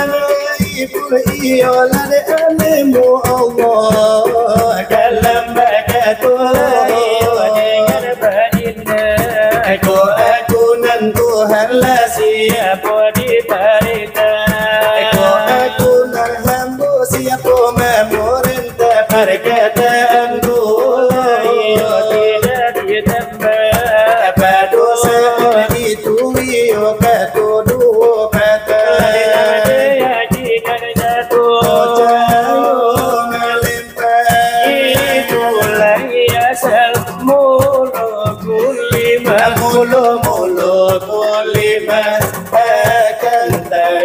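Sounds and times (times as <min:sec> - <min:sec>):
fingers beating brass trays: 0:00.0 - 0:44.0
men chanting: 0:00.0 - 0:44.0.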